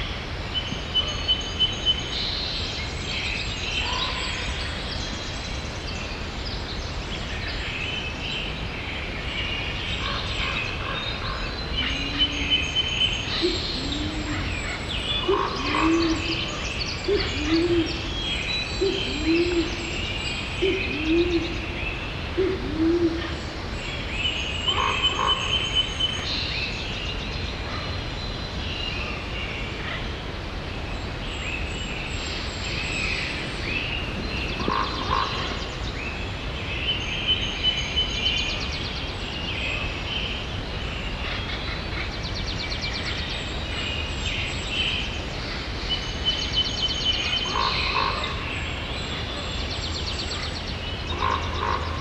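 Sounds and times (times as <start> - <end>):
rain hiss: 0.0 - 52.0.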